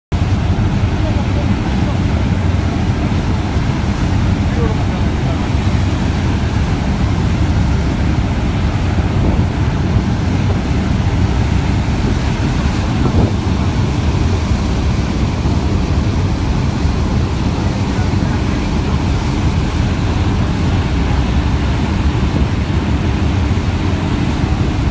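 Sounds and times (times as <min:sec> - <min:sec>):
boat engine rumble: 0:00.1 - 0:24.9
churning wake: 0:00.1 - 0:24.9
wind buffeting microphone: 0:00.1 - 0:24.9.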